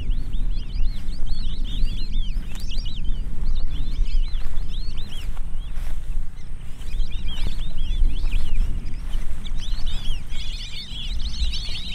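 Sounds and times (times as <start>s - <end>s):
many birds chirping: 0.0s - 11.9s
steady low rumble: 0.0s - 11.9s.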